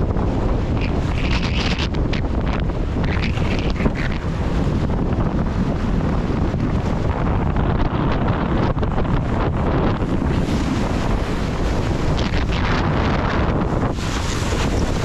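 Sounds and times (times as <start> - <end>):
choppy water and spray: 0.0 - 15.0
wind buffeting microphone: 0.0 - 15.0.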